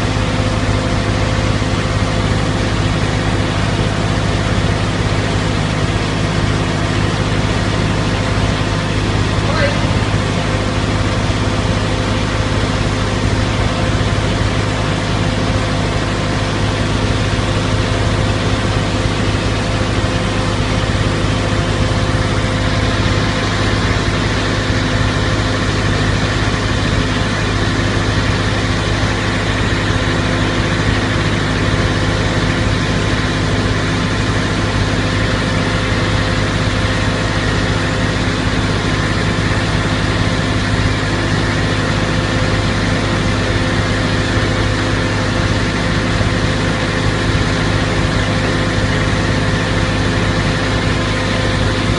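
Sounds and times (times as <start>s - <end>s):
vacuum truck pump humming: 0.0s - 51.9s.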